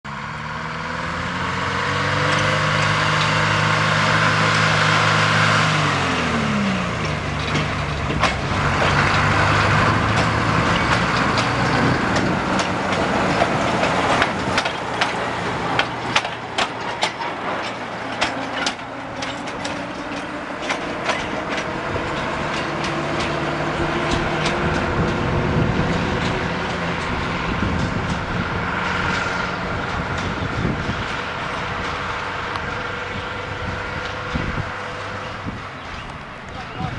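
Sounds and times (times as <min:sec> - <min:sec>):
diesel locomotive engine running: 0:00.0 - 0:36.9
wheels clacking over track: 0:00.2 - 0:36.9.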